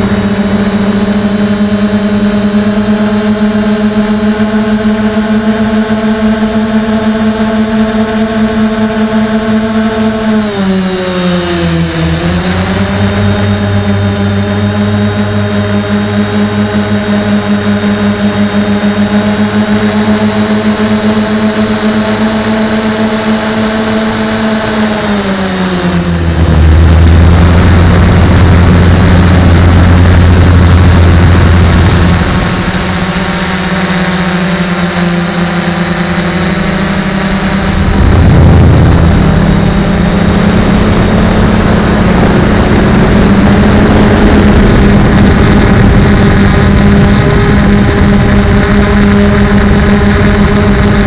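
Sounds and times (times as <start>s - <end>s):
drone propellers buzzing: 0.0s - 51.0s
low drone: 0.0s - 51.0s.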